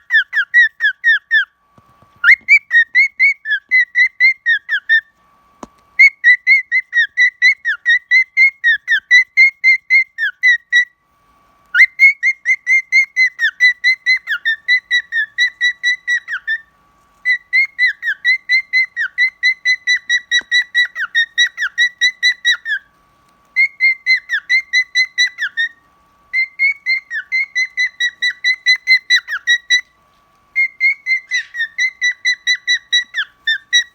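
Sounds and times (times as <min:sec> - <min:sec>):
cockatiel whistling: 0:00.0 - 0:01.5, 0:02.2 - 0:05.1, 0:06.0 - 0:10.9, 0:11.7 - 0:22.9, 0:23.5 - 0:29.9, 0:30.5 - 0:33.9.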